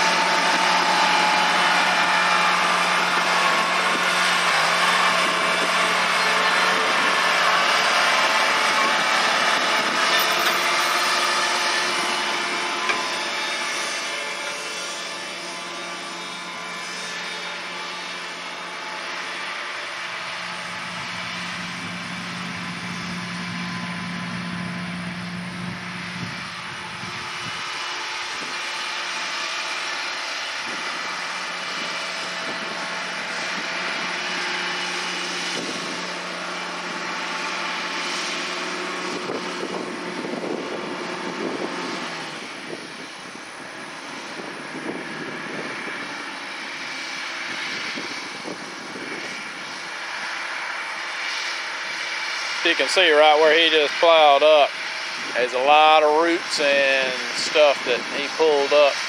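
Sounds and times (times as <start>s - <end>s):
low hum: 0.0s - 52.0s
tractor engines under load: 0.0s - 59.0s.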